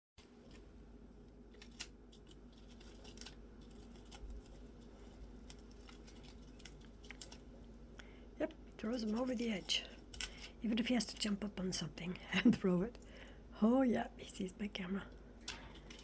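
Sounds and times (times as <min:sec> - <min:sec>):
faint low hum: 0:00.2 - 0:16.0.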